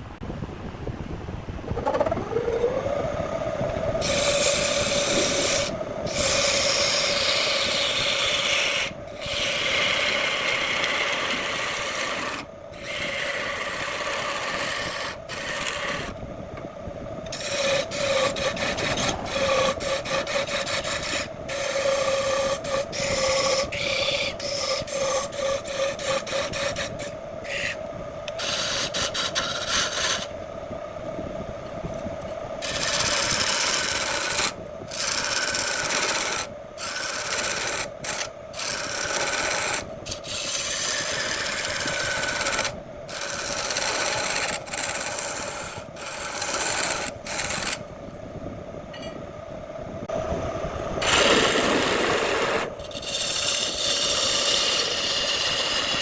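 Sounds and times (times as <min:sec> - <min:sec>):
wood lathe motor humming: 0:01.8 - 0:16.2, 0:17.3 - 0:30.4, 0:32.6 - 0:47.8, 0:51.0 - 0:56.0
turning tool scraping wood: 0:04.0 - 0:16.2, 0:17.3 - 0:30.3, 0:32.6 - 0:47.8, 0:51.0 - 0:56.0.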